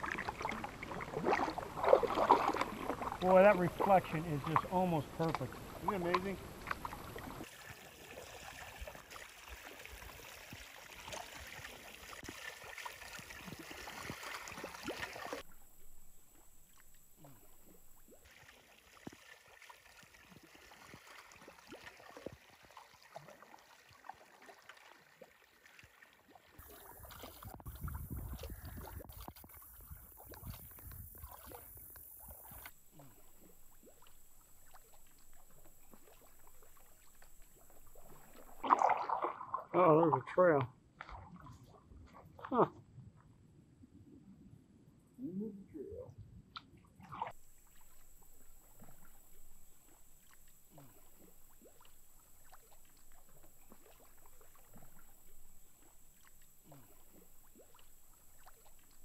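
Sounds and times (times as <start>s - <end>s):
water slipping along hull: 0.0s - 42.6s, 46.8s - 59.0s
kayak paddle dipping and dripping: 0.0s - 42.7s, 46.5s - 59.0s.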